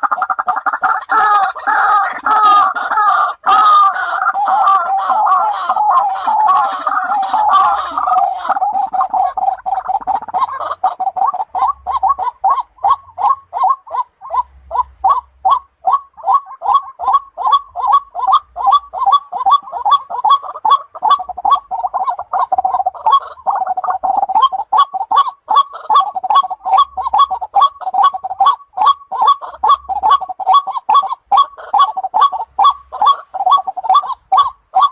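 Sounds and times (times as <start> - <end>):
bird harsh repeated calls: 0.0 - 34.9.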